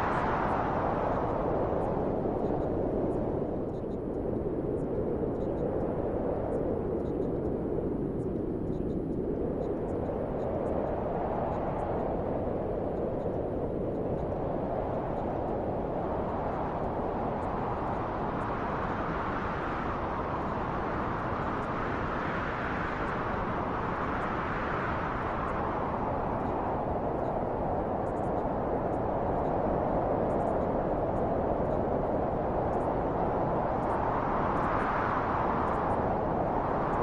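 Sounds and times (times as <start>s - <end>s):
wind rushing in gusts: 0.0s - 37.0s.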